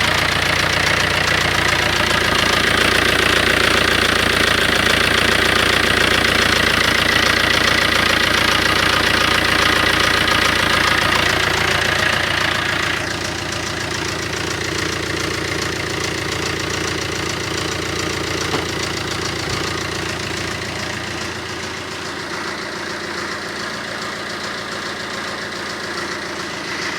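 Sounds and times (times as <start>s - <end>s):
diesel engine idling with knocking: 0.0s - 26.9s.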